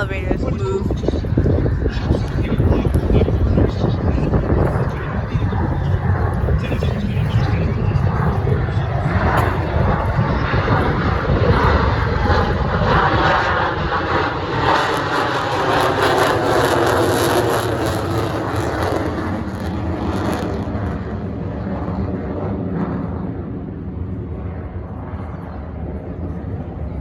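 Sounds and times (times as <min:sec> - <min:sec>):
fighter jet roaring past: 0:00.0 - 0:27.0.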